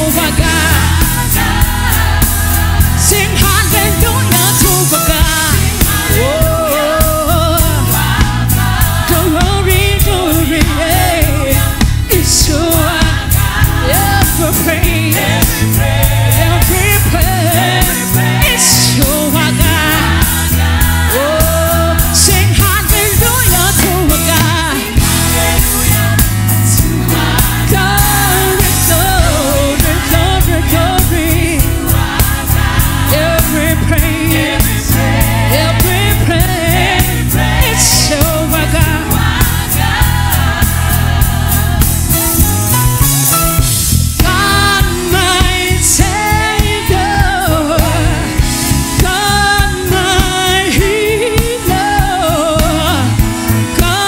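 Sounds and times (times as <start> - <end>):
gospel singers with band: 0.0 - 54.0.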